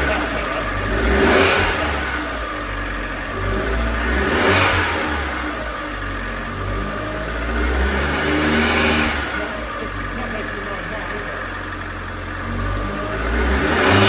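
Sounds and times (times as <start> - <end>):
car engine knocking: 0.0 - 14.0.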